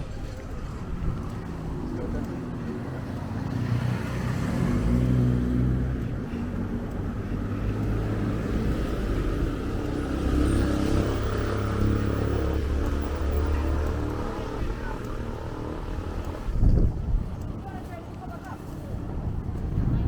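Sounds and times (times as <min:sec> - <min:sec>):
engine rumble: 0:00.0 - 0:20.0
road noise: 0:00.0 - 0:20.0.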